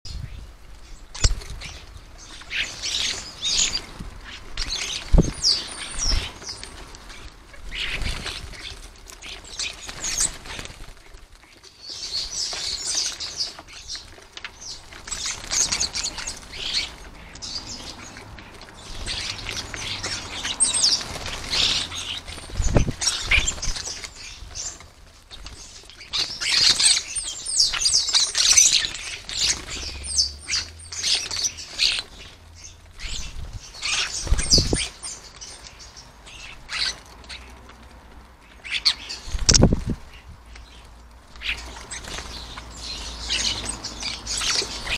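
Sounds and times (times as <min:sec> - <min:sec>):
starlings chattering: 0:00.1 - 0:37.6, 0:38.4 - 0:44.9
wings fluttering: 0:01.0 - 0:44.9.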